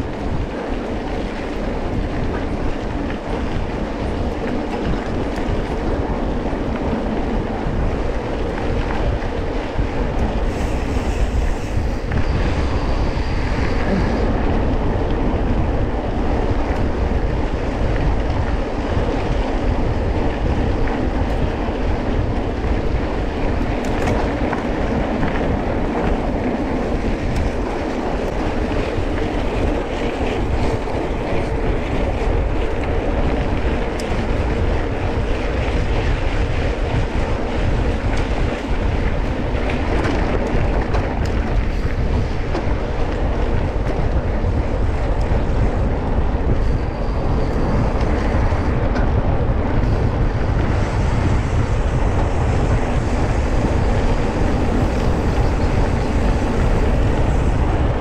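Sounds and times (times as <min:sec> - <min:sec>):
dense rushing noise: 0:00.0 - 0:58.0.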